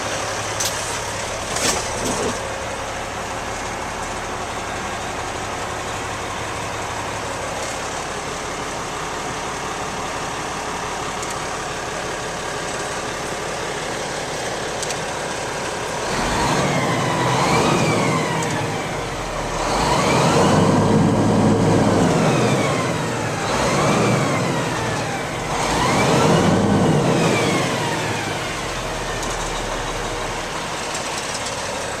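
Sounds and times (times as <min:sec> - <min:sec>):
diesel truck engine idling and revving: 0:00.0 - 0:32.0.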